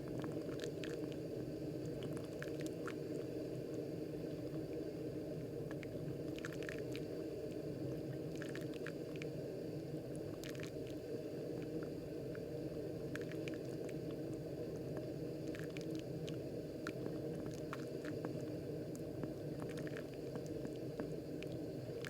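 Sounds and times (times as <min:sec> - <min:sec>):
coffee maker low rumble: 0:00.0 - 0:22.0
water pops and crackles on grounds: 0:00.1 - 0:03.8, 0:05.6 - 0:09.4, 0:10.1 - 0:12.5, 0:13.1 - 0:22.0.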